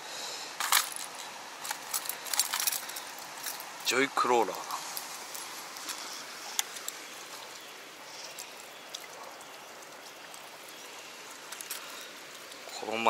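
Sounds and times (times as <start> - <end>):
stream flowing over rock: 0.7 - 13.0.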